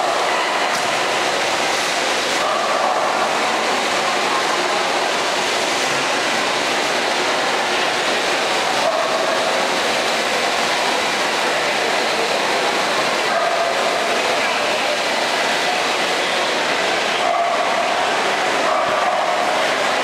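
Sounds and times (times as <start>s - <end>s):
faint wavering voices: 0.0s - 20.0s
indoor hall noise: 0.0s - 20.0s.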